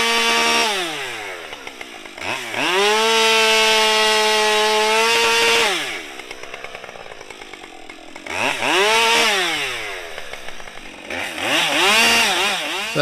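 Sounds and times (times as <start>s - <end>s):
chainsaw revving and idling: 0.0s - 13.0s.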